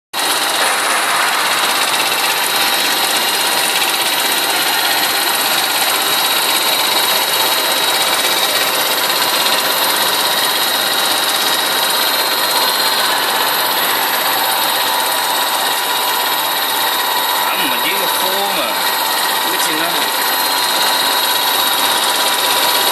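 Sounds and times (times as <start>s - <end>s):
machine running with high whine: 0.2s - 22.9s.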